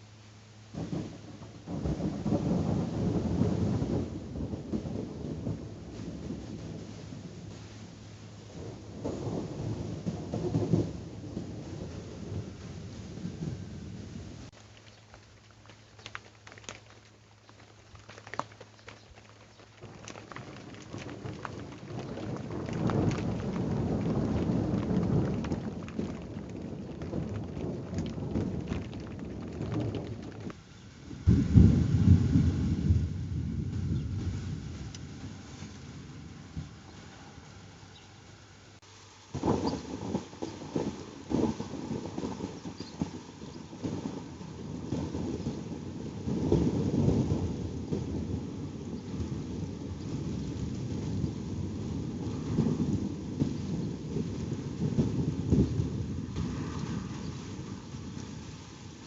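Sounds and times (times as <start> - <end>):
steady rain: 0.0 - 59.0
thunder rumbling: 0.7 - 14.6, 16.3 - 37.9, 39.3 - 59.0.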